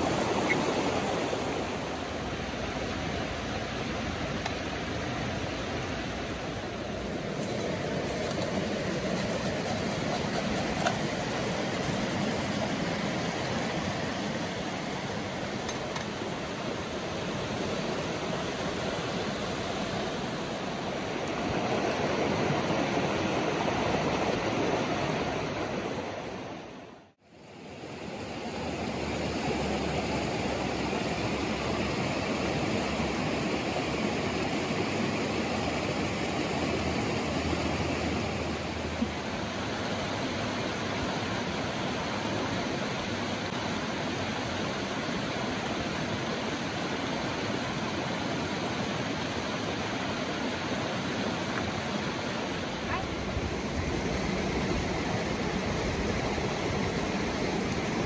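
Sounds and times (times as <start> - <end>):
stream rushing over stones: 0.0 - 26.6, 27.6 - 58.0.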